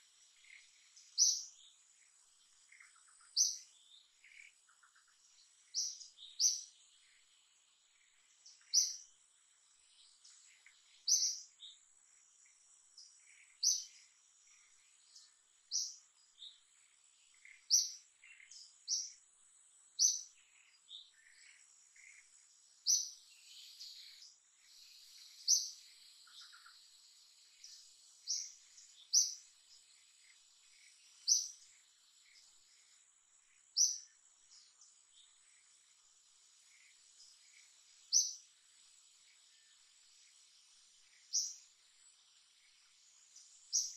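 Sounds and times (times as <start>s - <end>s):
bird chirping: 0.0s - 43.9s
insect drone: 0.0s - 43.9s.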